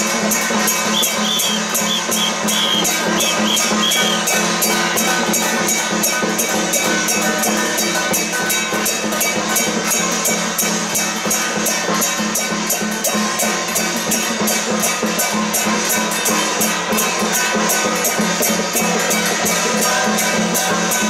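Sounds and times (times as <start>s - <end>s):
drums and cymbals beating: 0.0s - 21.0s.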